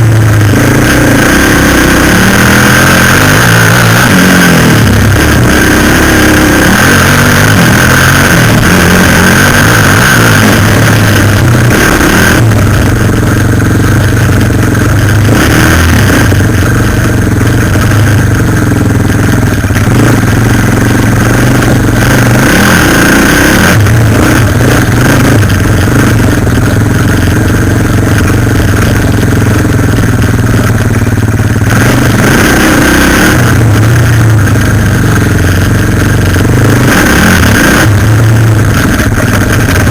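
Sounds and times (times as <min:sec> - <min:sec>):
constant rushing noise: 0:00.0 - 0:39.9
quad bike engine revving: 0:00.0 - 0:39.9.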